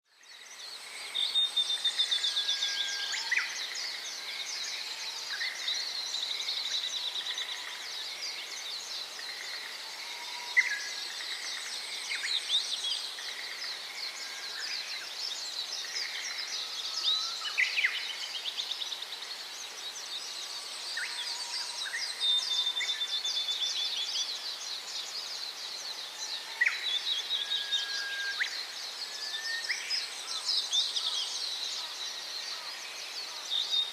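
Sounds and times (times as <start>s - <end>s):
flock of small birds chirping: 0.1s - 33.9s.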